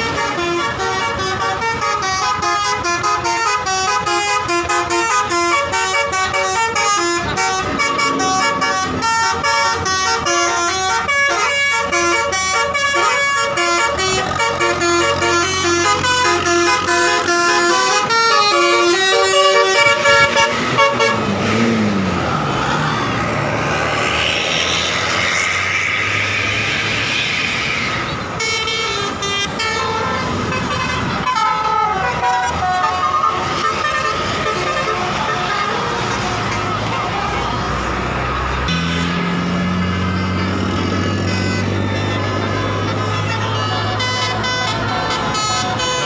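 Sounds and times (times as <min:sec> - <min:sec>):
multi-tone bus horn melody: 0:00.0 - 0:22.0, 0:28.2 - 0:46.0.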